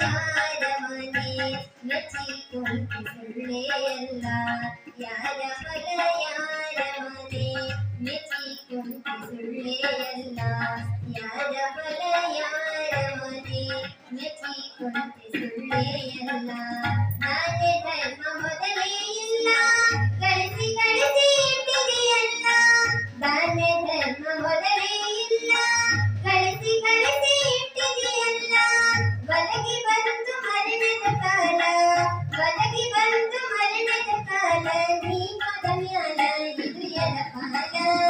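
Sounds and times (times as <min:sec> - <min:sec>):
harmonium: 0:00.0 - 0:38.0
person singing in a high voice: 0:00.0 - 0:38.0
tabla: 0:00.0 - 0:38.0.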